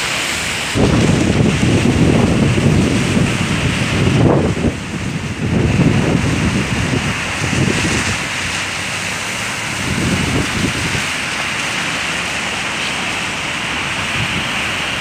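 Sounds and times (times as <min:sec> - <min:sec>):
traffic driving through floodwater: 0:00.0 - 0:15.0
wind buffeting microphone: 0:00.6 - 0:15.0.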